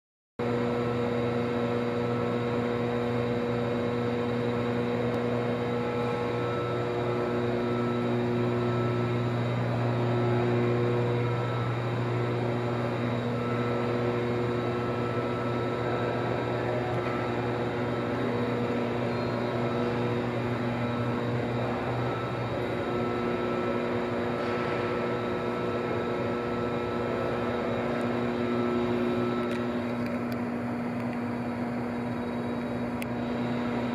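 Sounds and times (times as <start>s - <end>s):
low machine hum: 0.4s - 33.9s.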